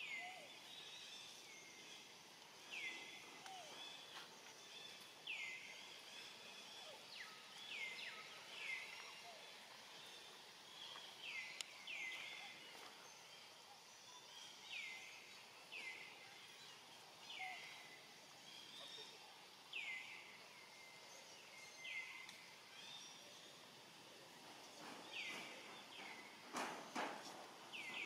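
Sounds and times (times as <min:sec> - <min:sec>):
quiet outdoor background noise: 0:00.0 - 0:28.0.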